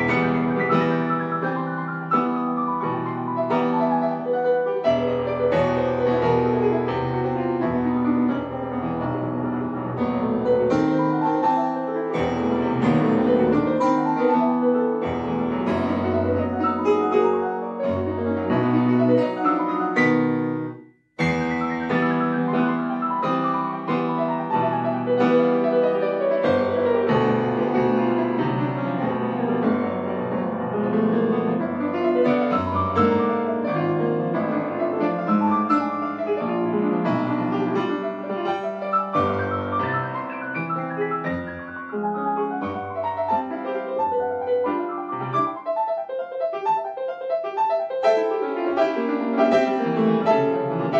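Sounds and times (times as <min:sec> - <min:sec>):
solo piano playing: 0:00.0 - 0:50.9.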